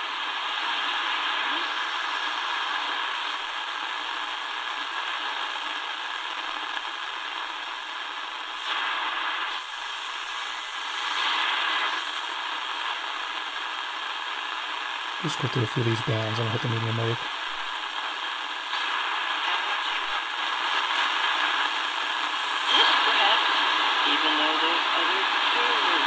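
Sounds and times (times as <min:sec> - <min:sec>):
shortwave radio static hissing: 0:00.0 - 0:26.0.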